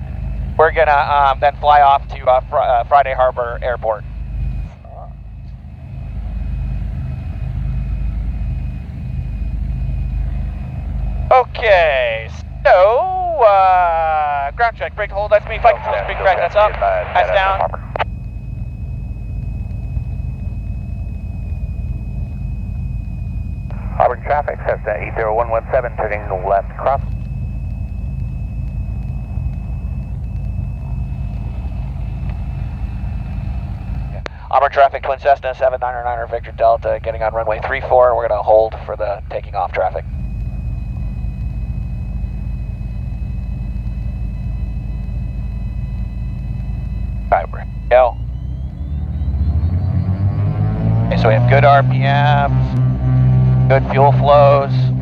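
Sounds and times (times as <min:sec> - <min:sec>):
twin piston engines idling: 0:00.0 - 0:49.2, 0:51.1 - 0:55.0
high-pitched whine: 0:00.0 - 0:55.0.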